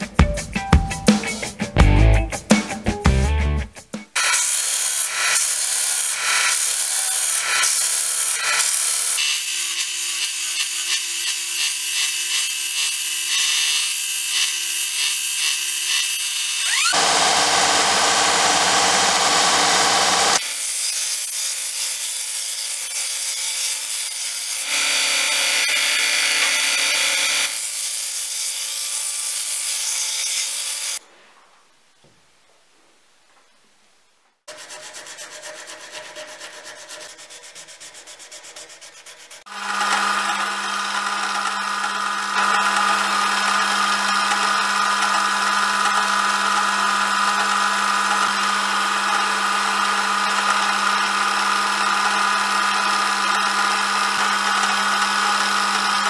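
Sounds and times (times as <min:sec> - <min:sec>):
band saw cutting: 0:04.1 - 0:31.0, 0:34.5 - 0:56.0.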